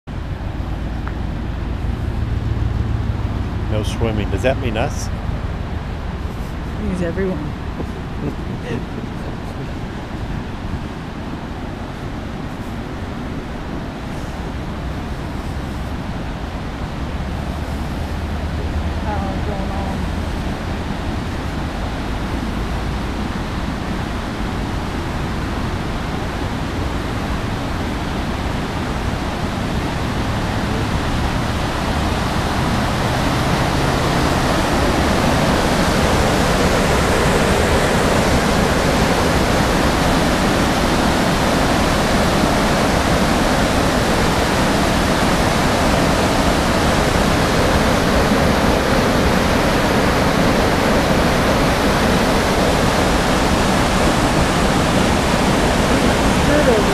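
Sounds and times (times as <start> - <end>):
water rushing over waterfall: 0.1 - 56.9.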